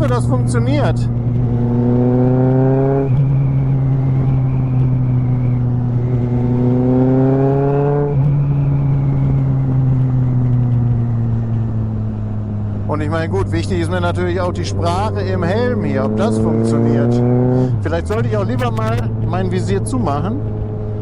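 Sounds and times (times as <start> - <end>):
motorcycle engine accelerating: 0.0 - 21.0
wind noise: 0.0 - 21.0.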